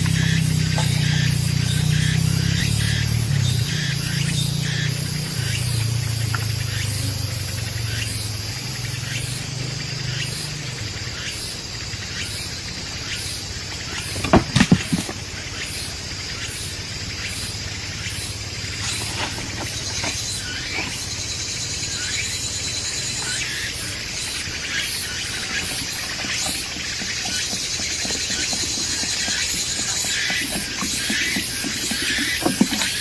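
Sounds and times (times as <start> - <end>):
insects singing in pulses: 0.0 - 33.0.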